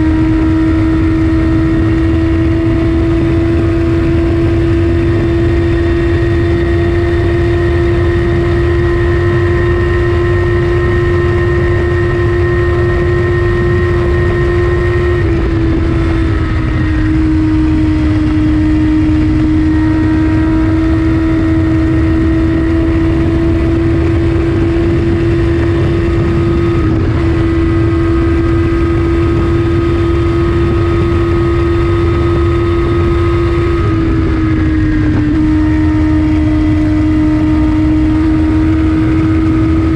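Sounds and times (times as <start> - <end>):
motorcycle engine at high revs: 0.0 - 39.9
rushing wind: 0.0 - 39.9.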